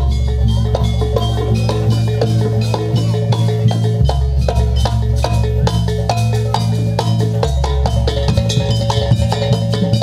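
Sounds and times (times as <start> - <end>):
drums: 0.0 - 10.0
gongs and metallophones: 0.0 - 10.0.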